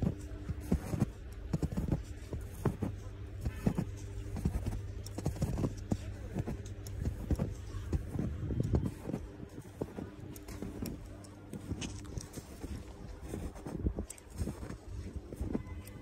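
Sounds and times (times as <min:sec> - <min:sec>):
footsteps crunching in snow: 0:00.0 - 0:16.0
steady low rumble: 0:00.0 - 0:16.0.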